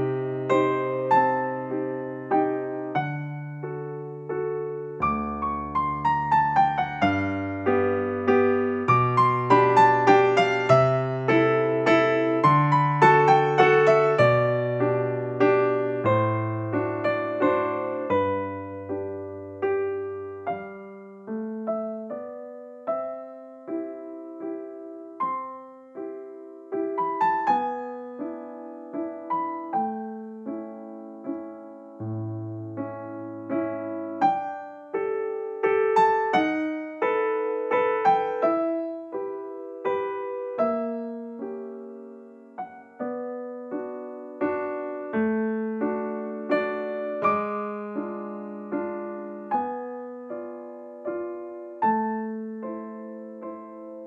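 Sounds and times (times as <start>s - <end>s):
gentle piano music: 0.0s - 54.0s.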